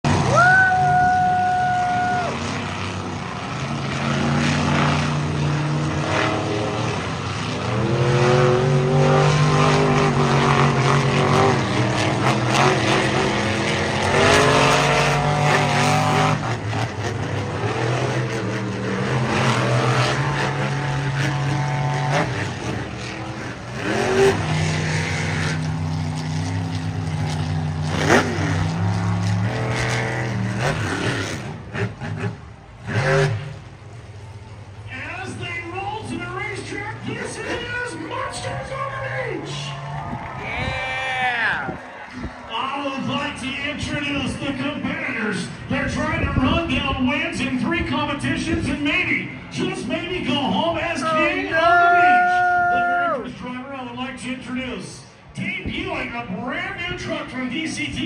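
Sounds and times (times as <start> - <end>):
monster truck engines revving: 0.0 - 58.0.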